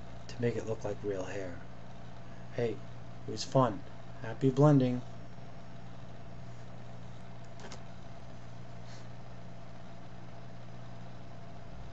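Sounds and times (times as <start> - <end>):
low electrical hum: 0.0 - 11.9.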